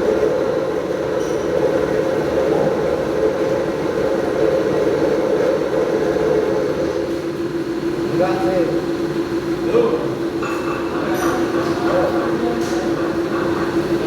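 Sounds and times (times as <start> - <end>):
milling machine running: 0.0 - 14.0.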